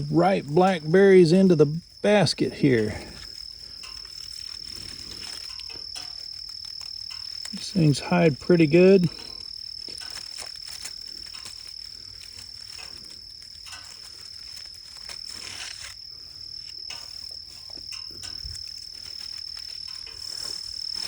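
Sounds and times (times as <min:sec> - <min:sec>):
brush rustling: 0:00.0 - 0:21.0
insect chorus droning: 0:00.0 - 0:21.0.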